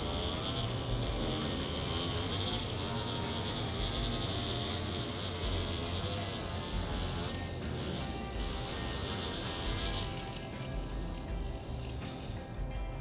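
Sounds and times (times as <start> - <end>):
insects droning: 0.0 - 12.6.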